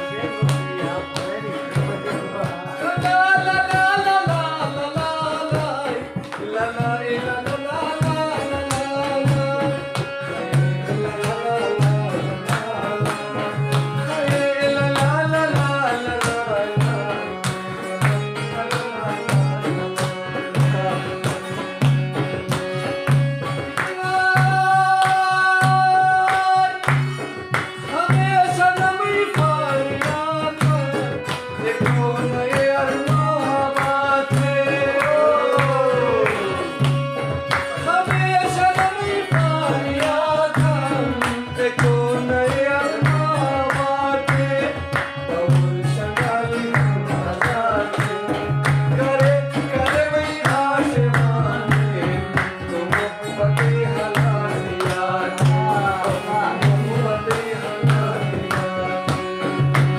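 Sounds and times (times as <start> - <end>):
hand drum beat: 0.0 - 59.9
harmonium: 0.0 - 59.9
man singing: 0.0 - 59.9.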